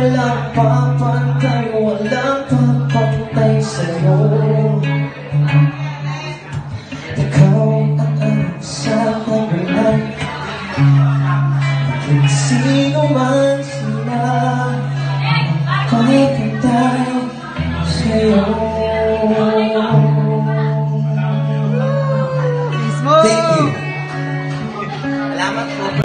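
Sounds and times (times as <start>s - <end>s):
man singing into a microphone: 0.0s - 24.0s
acoustic guitar: 0.0s - 26.0s.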